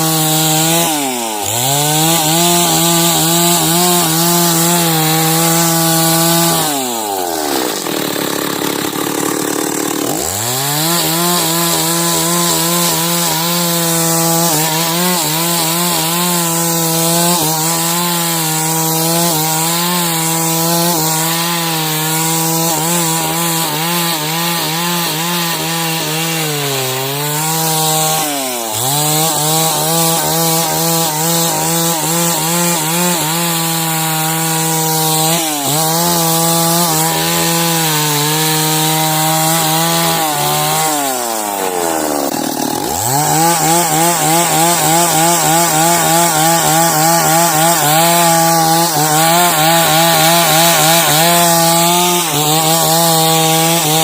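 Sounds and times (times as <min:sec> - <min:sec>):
chainsaw cutting timber: 0:00.0 - 0:54.0.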